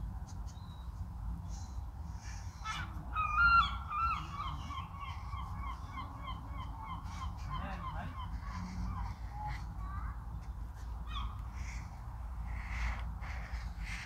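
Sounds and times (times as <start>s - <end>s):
seagull calling: 2.2s - 14.0s.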